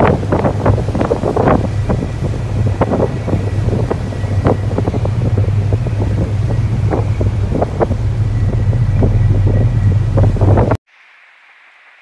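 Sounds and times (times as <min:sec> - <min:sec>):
steady low rumble: 0:00.0 - 0:10.8
wind buffeting microphone: 0:00.0 - 0:10.8.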